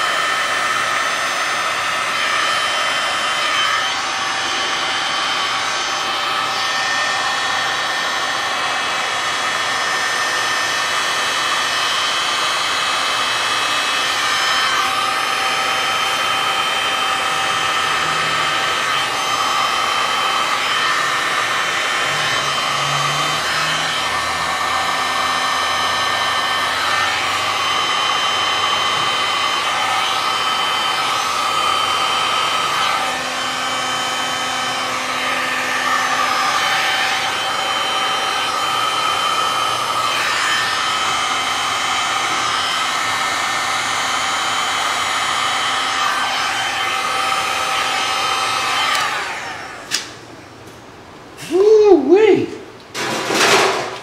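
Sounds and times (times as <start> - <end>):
heat gun fan whine: 0.0 - 54.0.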